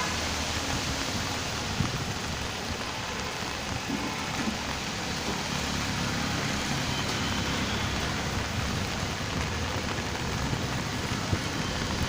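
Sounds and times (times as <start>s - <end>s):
road traffic rumble: 0.0s - 12.0s
steady rain falling: 0.0s - 12.0s.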